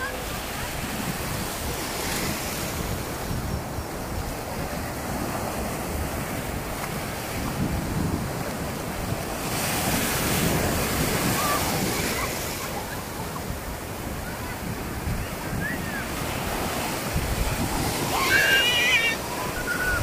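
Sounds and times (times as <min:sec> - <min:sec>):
sea waves washing on shore: 0:00.0 - 0:20.0
wind buffeting microphone: 0:00.0 - 0:20.0.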